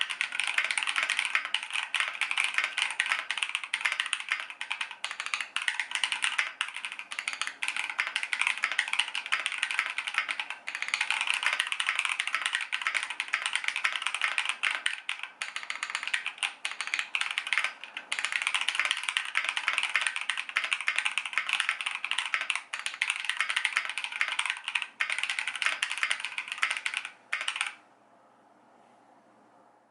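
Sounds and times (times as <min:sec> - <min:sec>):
fast typing on mechanical keyboard: 0:00.0 - 0:27.8.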